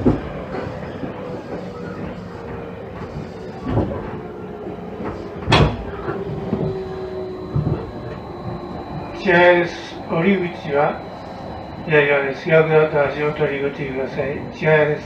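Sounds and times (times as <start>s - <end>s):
train car hum and rumble: 0.0s - 15.0s.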